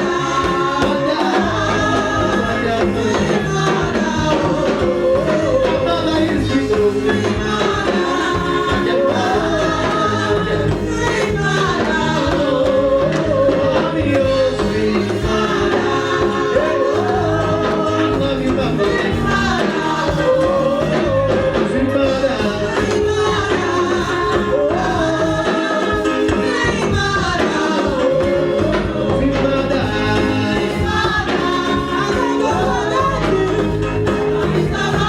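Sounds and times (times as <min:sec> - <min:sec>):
band accompaniment: 0:00.0 - 0:35.0
gospel singing: 0:00.0 - 0:35.0.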